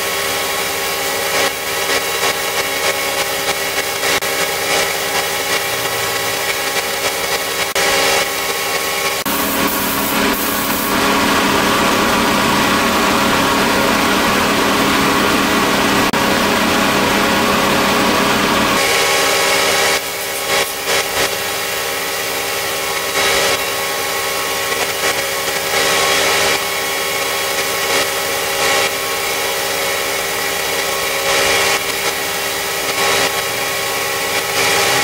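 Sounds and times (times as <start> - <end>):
power tool motor running: 0.0 - 35.0.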